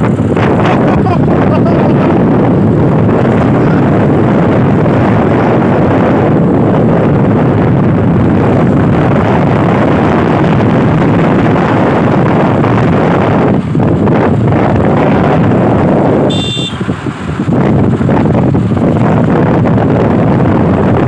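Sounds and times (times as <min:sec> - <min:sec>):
vehicle riding along road: 0:00.0 - 0:21.0
wind buffeting microphone: 0:00.0 - 0:21.0.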